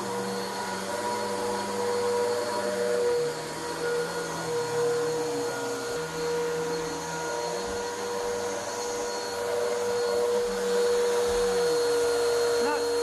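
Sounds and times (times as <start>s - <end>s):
vacuum cleaner on carpet: 0.0s - 13.0s.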